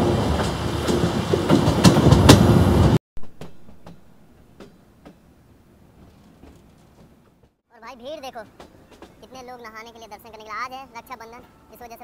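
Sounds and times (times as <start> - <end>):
clickety-clack of rail joints: 0.0 - 10.4
train wheels rumbling on rails: 0.0 - 10.4.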